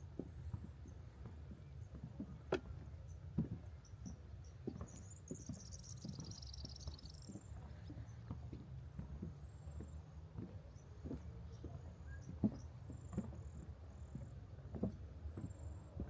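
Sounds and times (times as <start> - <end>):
footsteps on wooden boardwalk: 0.0 - 16.0.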